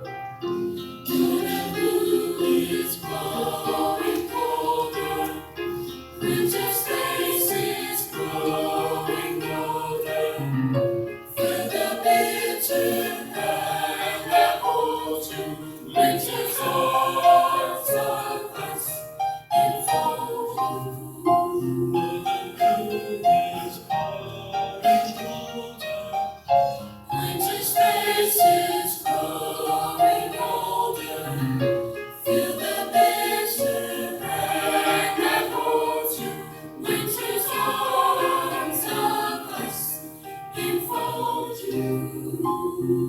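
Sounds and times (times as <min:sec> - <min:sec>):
chorus singing: 0:00.6 - 0:43.0.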